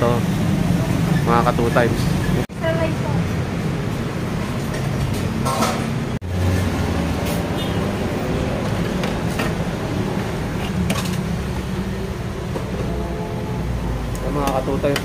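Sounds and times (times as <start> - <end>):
busy road traffic: 0.0 - 15.0.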